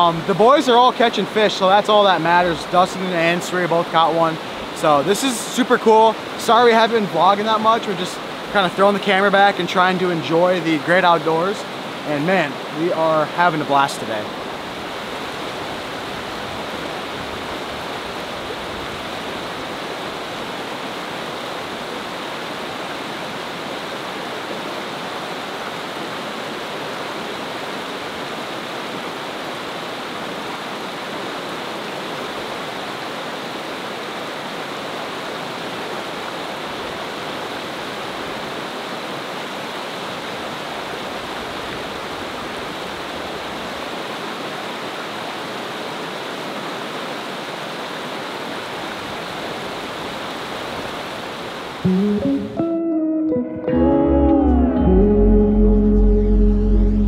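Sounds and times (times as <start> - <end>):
creek rushing over rocks: 0.0 - 51.9.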